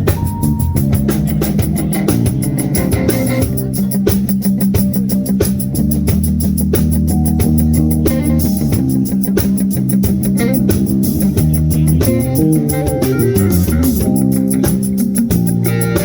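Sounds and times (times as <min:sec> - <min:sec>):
sliding guitar notes: 0:00.0 - 0:04.2, 0:07.1 - 0:16.0
bass guitar: 0:00.0 - 0:16.0
electric guitar: 0:00.0 - 0:16.0
fast high ticking beat: 0:00.0 - 0:16.0.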